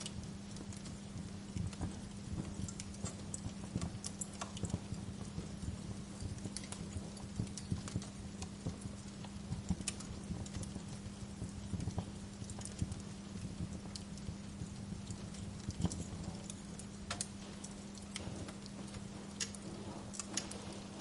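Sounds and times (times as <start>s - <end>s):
steady low hum: 0.0s - 21.0s
wood fire crackling: 0.0s - 21.0s.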